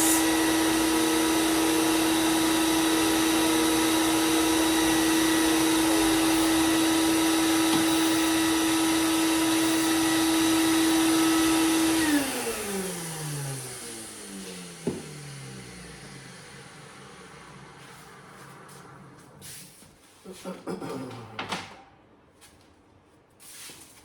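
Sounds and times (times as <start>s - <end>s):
belt sander running: 0.0s - 19.4s.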